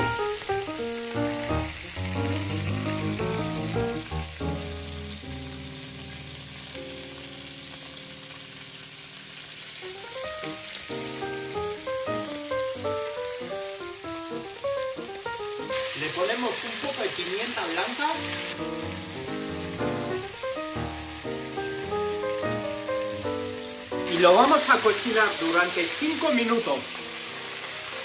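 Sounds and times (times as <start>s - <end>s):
background music: 0.0s - 8.6s, 9.9s - 16.6s, 17.6s - 28.0s
clams sizzling in a pan: 0.0s - 28.0s.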